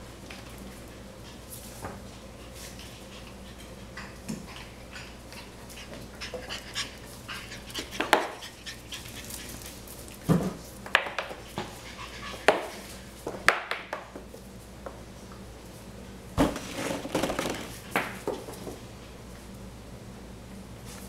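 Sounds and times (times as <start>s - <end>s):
puppies scampering on tile floor: 0.0s - 15.9s, 16.5s - 19.6s.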